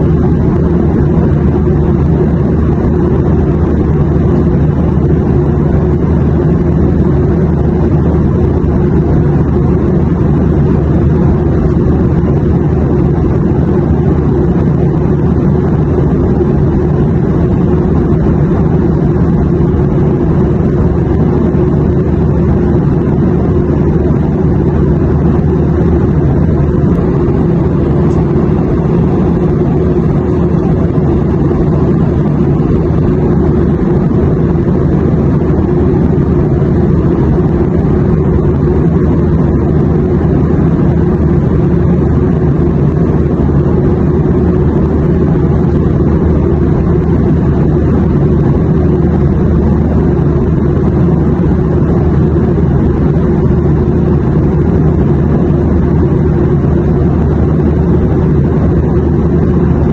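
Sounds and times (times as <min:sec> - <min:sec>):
airplane cabin engine rumble: 0:00.0 - 0:59.9
faint steady hum: 0:00.0 - 0:59.9.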